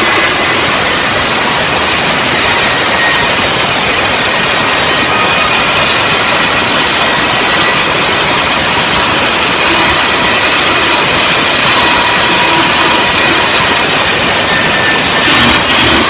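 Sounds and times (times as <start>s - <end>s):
workshop machinery running: 0.0s - 16.0s.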